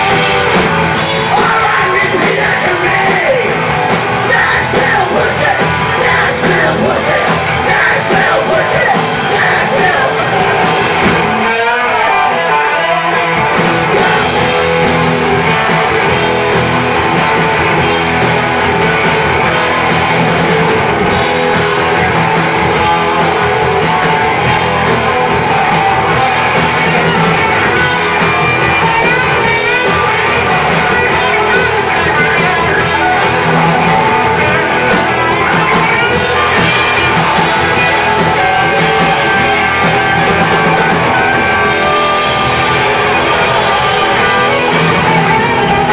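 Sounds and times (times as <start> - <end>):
bass guitar: 0.0 - 45.9
drum kit: 0.0 - 45.9
electric guitars: 0.0 - 45.9.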